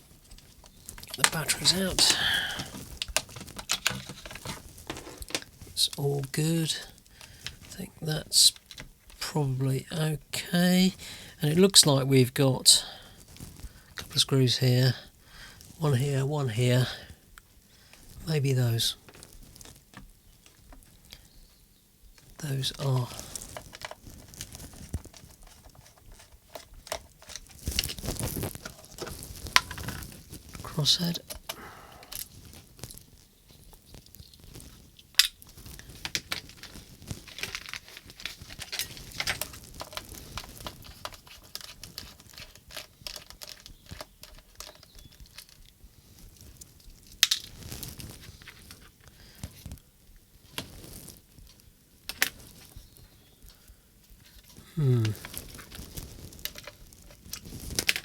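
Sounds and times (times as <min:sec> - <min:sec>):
rustling and scraping: 0:00.0 - 0:09.7, 0:12.8 - 0:14.3, 0:15.4 - 0:58.0.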